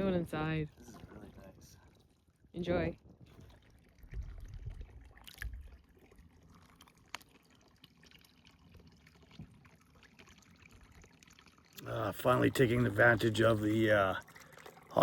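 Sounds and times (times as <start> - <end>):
water trickling into tub: 0.0 - 15.0.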